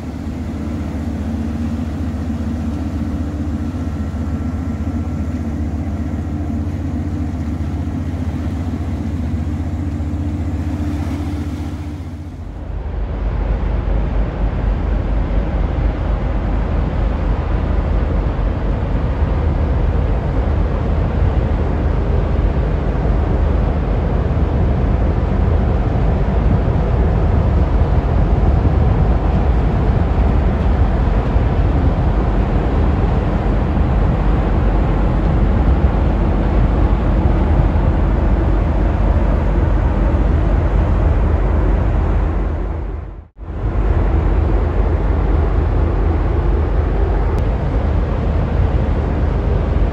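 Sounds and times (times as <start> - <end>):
rushing water noise: 0.0 - 49.9
ship low rumble: 0.0 - 49.9.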